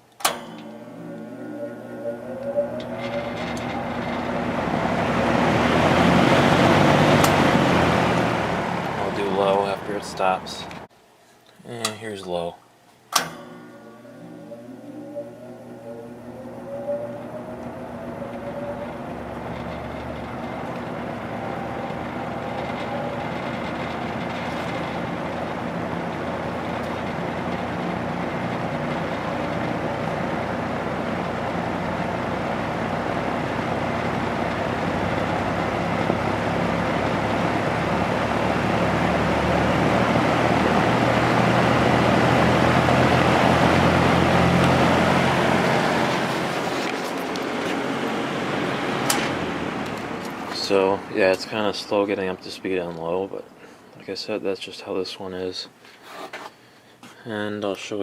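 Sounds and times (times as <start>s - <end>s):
box fan motor humming: 0.0s - 10.9s, 13.2s - 53.9s.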